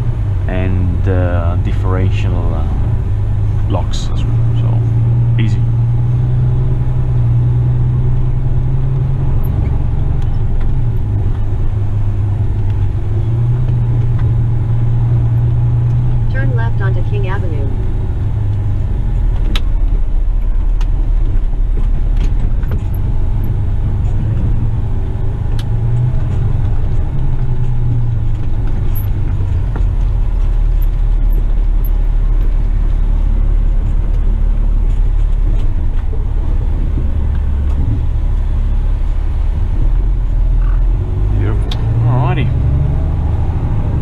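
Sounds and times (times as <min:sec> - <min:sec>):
truck diesel engine droning: 0:00.0 - 0:44.0.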